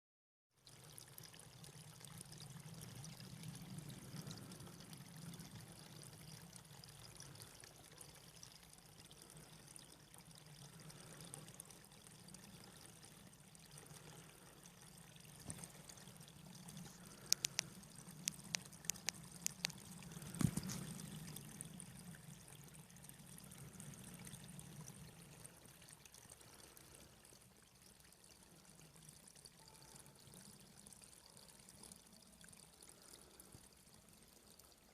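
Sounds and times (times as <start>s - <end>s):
water trickling: 0.6s - 34.9s.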